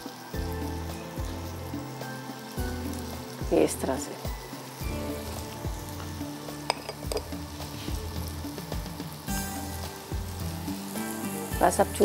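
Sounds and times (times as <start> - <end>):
frying pan sizzling: 0.0 - 12.0.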